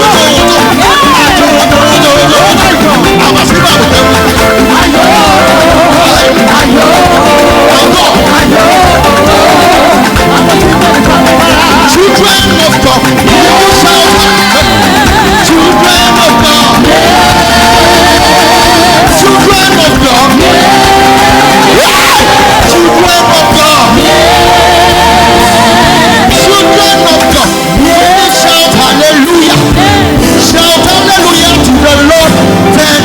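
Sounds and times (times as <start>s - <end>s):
church choir singing: 0.0s - 33.0s
live band: 0.0s - 33.0s
steady percussion: 0.0s - 33.0s.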